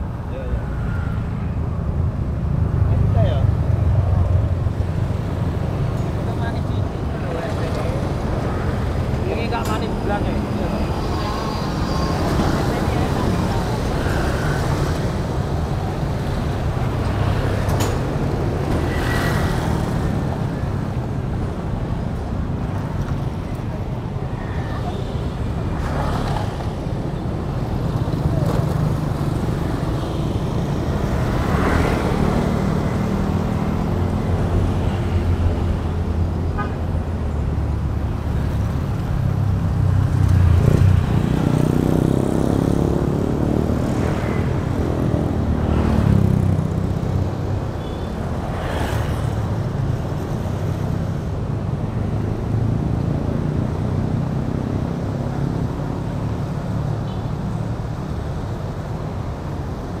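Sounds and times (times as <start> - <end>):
motorbikes passing close by: 3.2 - 21.6, 24.4 - 36.4, 37.3 - 57.0.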